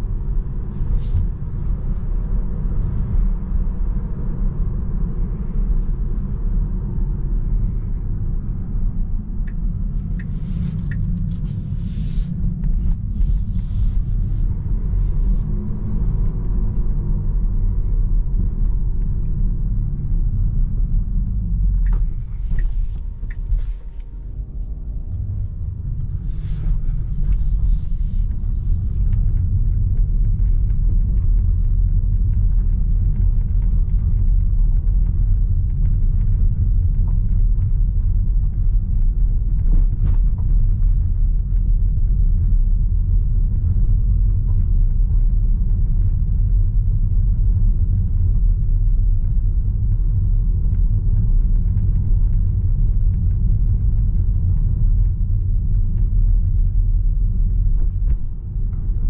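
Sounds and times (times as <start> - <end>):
tyre and road rumble in car: 0.0 - 59.0.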